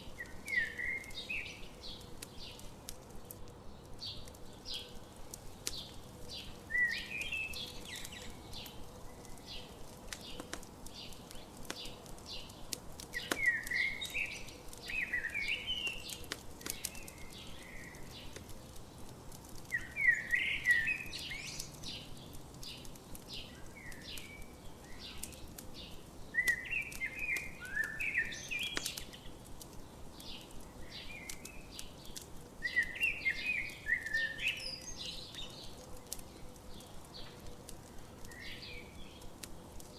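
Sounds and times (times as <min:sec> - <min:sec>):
campfire popping and crackling: 0:00.0 - 0:39.9.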